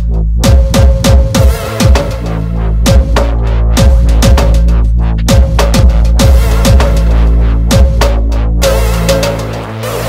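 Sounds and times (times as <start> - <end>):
dubstep music with heavy bass: 0.0 - 10.0.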